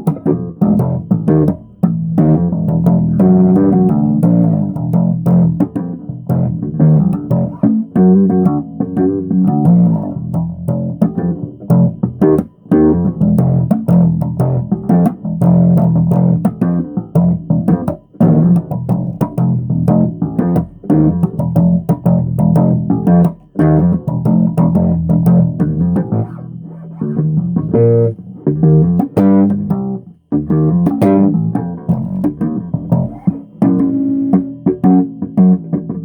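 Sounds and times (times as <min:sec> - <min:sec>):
bass guitar plucked notes: 0:00.0 - 0:36.0.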